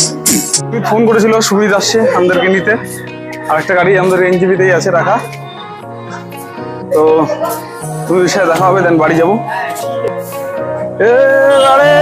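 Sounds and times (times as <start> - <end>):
background song: 0.0 - 12.0.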